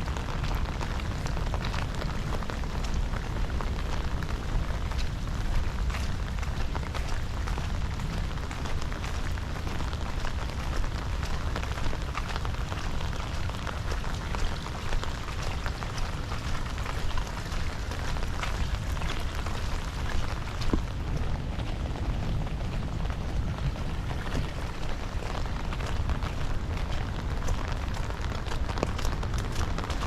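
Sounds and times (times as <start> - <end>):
heavy rain falling: 0.0 - 30.0
steady low rumble: 0.0 - 30.0.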